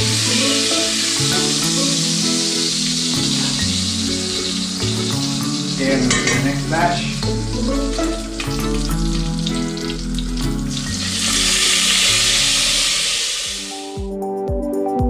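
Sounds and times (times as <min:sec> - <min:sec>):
chicken sizzling in hot oil: 0:00.0 - 0:14.0
background music: 0:00.0 - 0:15.0.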